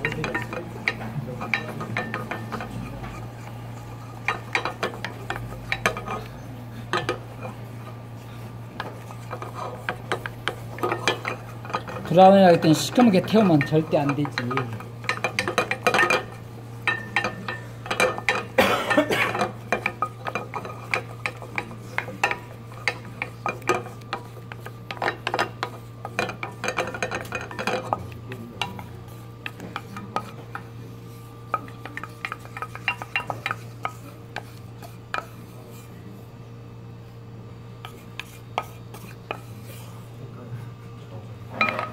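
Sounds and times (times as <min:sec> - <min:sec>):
wooden spatula scraping saucepan: 0:00.0 - 0:06.4, 0:07.0 - 0:18.6, 0:19.3 - 0:36.0, 0:37.8 - 0:40.0
steady low hum: 0:00.0 - 0:41.9.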